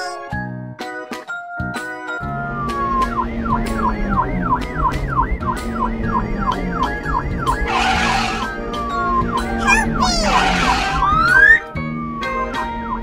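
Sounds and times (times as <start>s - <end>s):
light background music: 0.0s - 13.0s
cartoon police siren: 2.5s - 13.0s.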